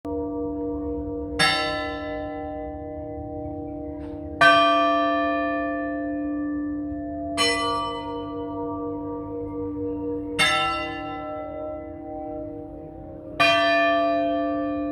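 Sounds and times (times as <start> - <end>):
church bell tolling slowly: 0.1 - 14.9.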